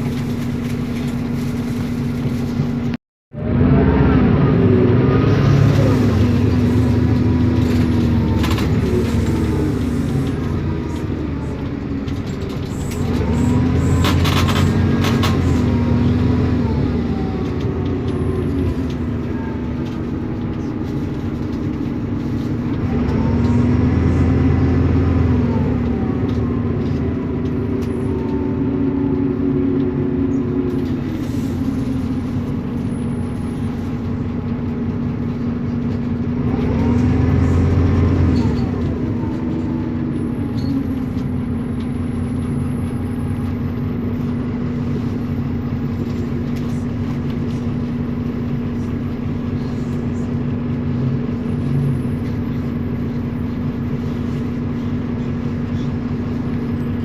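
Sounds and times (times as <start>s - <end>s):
bus engine and gearbox whine: 0.0s - 57.0s.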